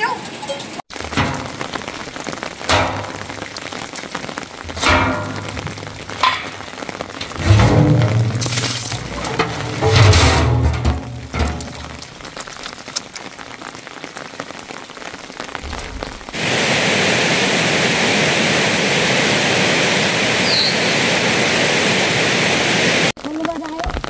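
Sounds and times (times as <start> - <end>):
rain falling on grass: 0.0 - 24.0.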